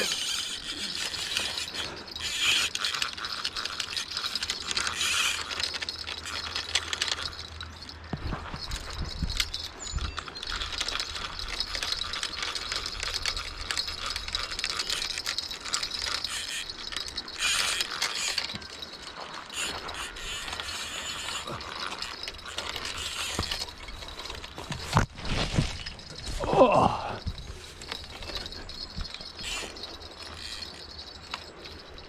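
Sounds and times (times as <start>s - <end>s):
fishing reel ratcheting clicks: 0.0s - 24.7s, 27.2s - 32.0s.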